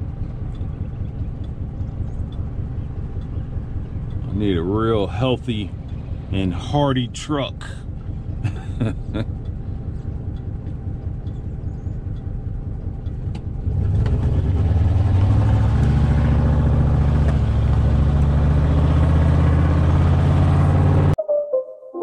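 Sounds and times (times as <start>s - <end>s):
truck engine running: 0.0s - 21.2s.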